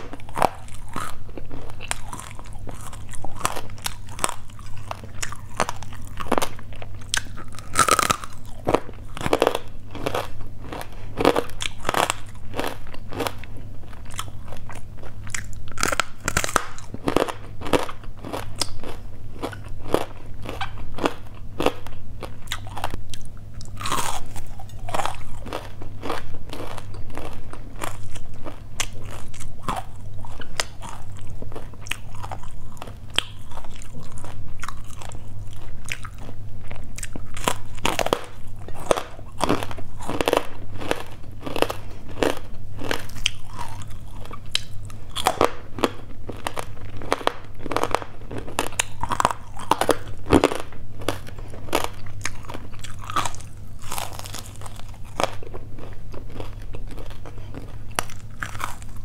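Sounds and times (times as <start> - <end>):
crisp crunches of chewing: 0.0 - 59.0.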